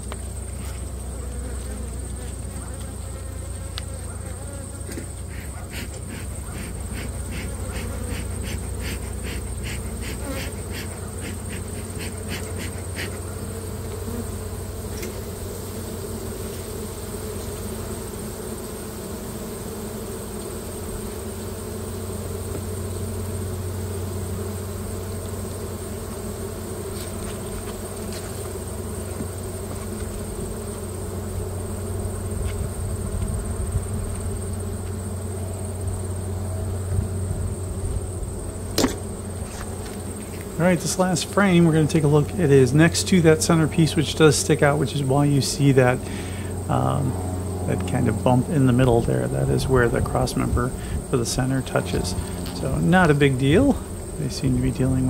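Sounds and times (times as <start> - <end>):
honeybees humming: 0.0 - 55.0.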